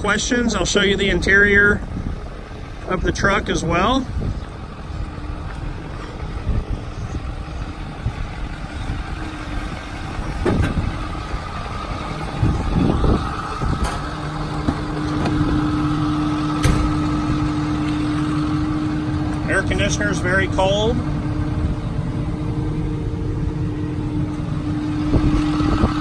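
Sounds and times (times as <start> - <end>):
steady cab hum: 0.0 - 26.0
truck engine idling: 0.0 - 26.0.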